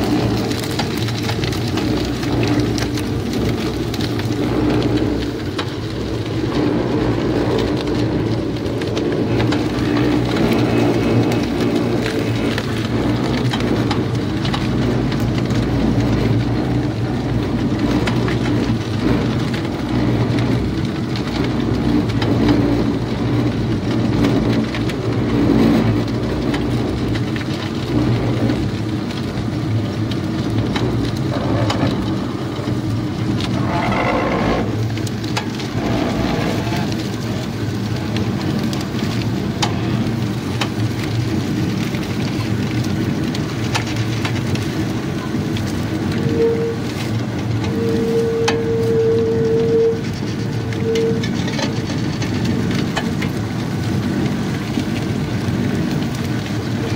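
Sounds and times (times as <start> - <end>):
rushing hiss of crushing: 0.0 - 56.9
sugarcane crusher humming: 0.0 - 56.9.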